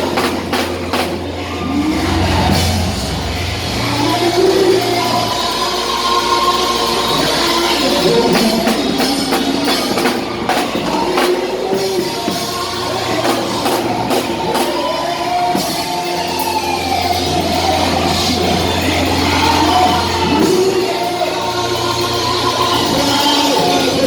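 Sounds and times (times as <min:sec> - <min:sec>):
drum kit: 0:00.0 - 0:24.0
guitar: 0:00.0 - 0:24.0
live worship music: 0:00.0 - 0:24.0
voices singing: 0:00.0 - 0:24.0.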